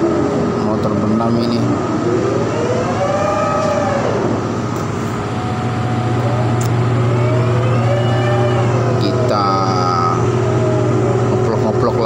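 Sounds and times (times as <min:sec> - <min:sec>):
heavy diesel engine revving: 0:00.0 - 0:12.0
low machinery hum: 0:00.0 - 0:12.0.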